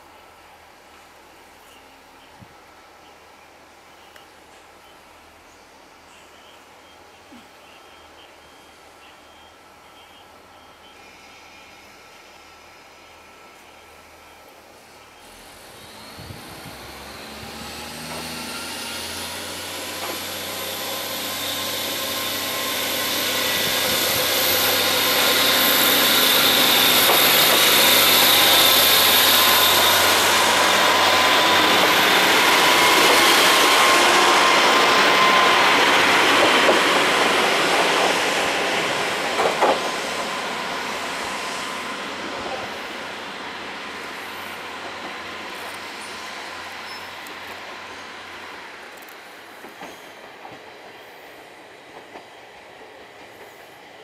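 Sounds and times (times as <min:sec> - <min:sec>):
passenger train whine: 0:00.0 - 0:54.0.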